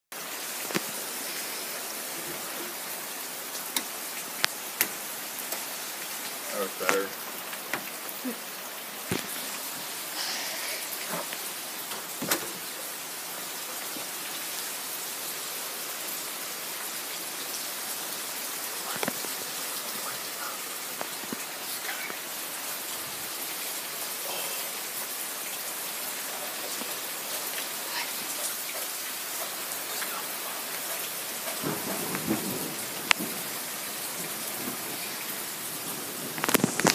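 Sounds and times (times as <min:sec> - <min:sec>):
heavy rain: 0:00.1 - 0:36.9.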